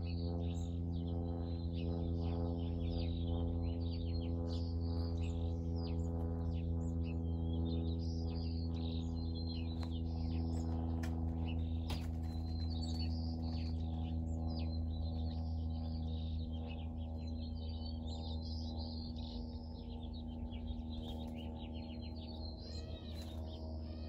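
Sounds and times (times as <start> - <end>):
low humming drone: 0.0 - 24.0
small birds chirping: 0.0 - 24.0.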